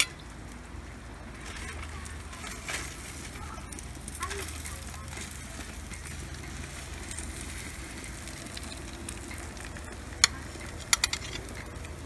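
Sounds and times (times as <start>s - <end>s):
fish sizzling on grill: 0.0s - 12.0s.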